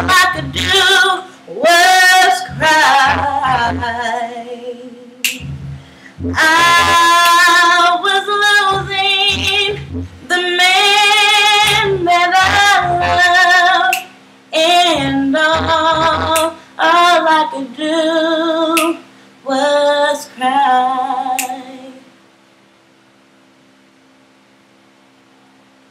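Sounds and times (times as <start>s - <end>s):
woman singing with heavy vibrato: 0.0s - 22.1s.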